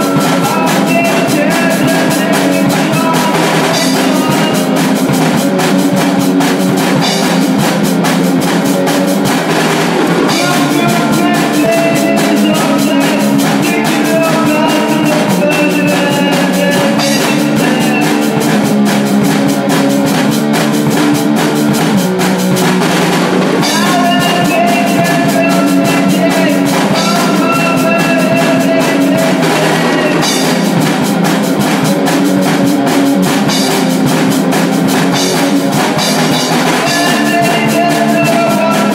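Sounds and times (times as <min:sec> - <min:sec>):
drum kit drumming: 0:00.0 - 0:38.9
electric guitar riffing: 0:00.0 - 0:38.9.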